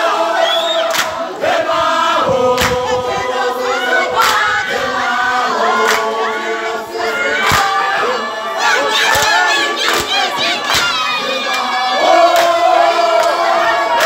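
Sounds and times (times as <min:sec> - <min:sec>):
crowd beating in unison: 0:00.0 - 0:14.0
crowd singing in chorus: 0:00.0 - 0:14.0.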